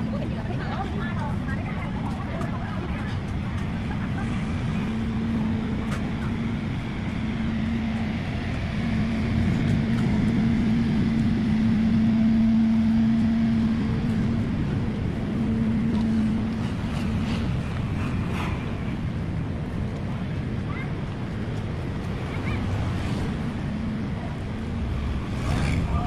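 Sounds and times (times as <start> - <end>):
street noise: 0.0 - 26.0
vehicle engine humming: 0.0 - 26.0.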